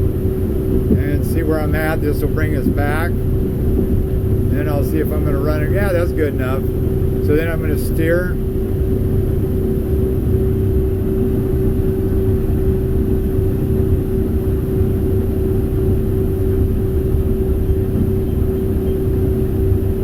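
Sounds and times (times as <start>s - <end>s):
boat engines droning: 0.0s - 20.0s.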